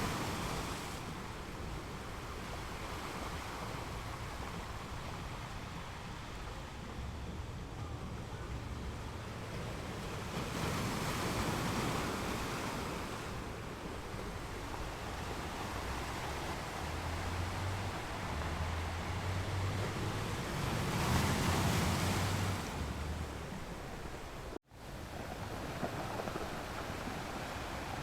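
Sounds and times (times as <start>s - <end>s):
ocean waves washing onto beach: 0.0s - 28.0s.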